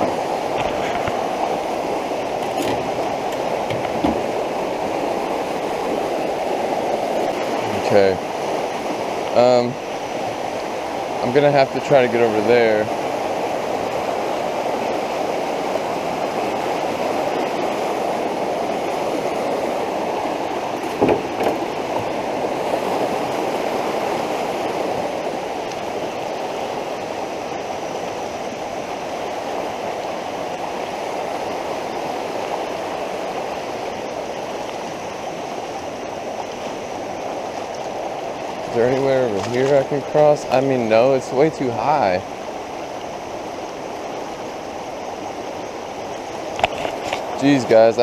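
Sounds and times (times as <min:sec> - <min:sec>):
creek floodwater rushing: 0:00.0 - 0:48.0.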